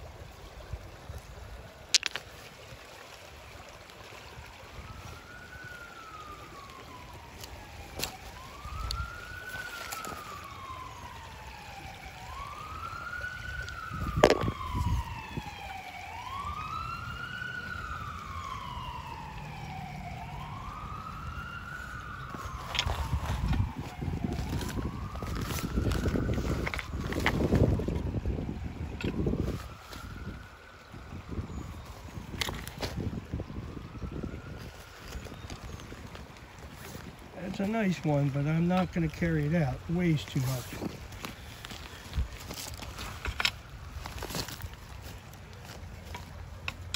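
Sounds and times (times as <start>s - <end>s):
distant siren wailing: 3.4s - 46.9s
higher-pitched siren: 4.2s - 46.9s.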